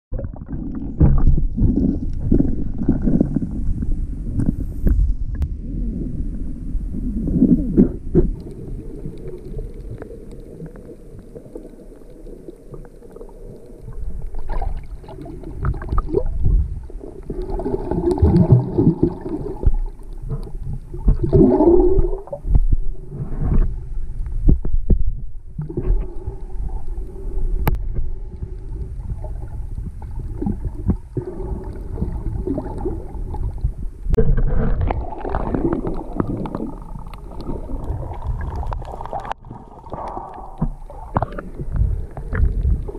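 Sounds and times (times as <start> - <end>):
bubbling: 0.1 - 23.8, 24.5 - 42.9
underwater water sloshing: 0.1 - 42.9.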